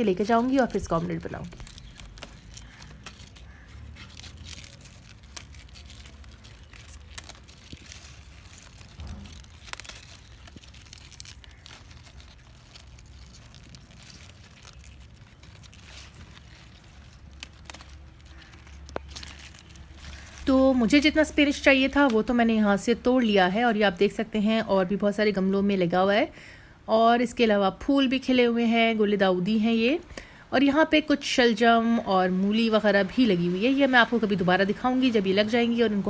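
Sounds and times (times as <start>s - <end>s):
leaves snapping and rustling: 0.0s - 25.7s, 29.5s - 36.0s.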